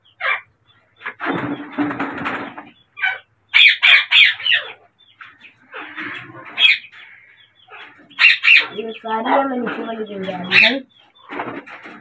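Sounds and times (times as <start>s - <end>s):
parakeets squawking: 0.1s - 1.6s, 2.8s - 11.6s.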